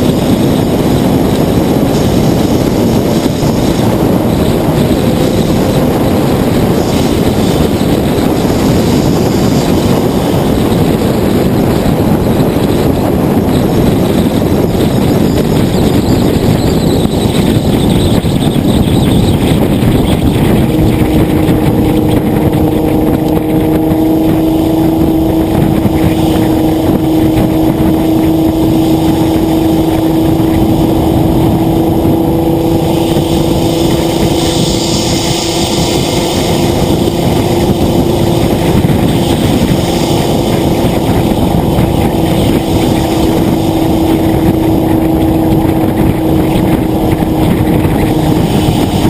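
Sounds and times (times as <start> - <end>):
car engine cruising: 0.0 - 49.0
road noise: 0.0 - 49.0.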